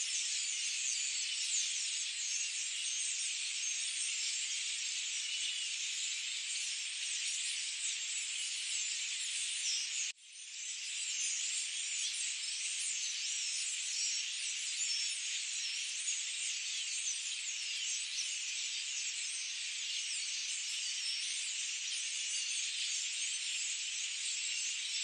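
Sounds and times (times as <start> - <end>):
many small birds chirping: 0.0 - 25.0.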